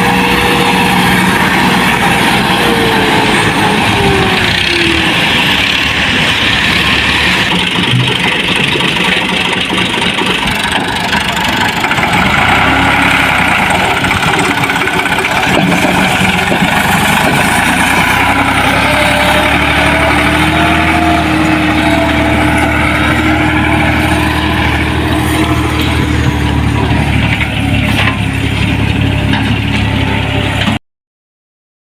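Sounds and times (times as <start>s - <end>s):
tractor diesel engine running: 0.0s - 30.8s.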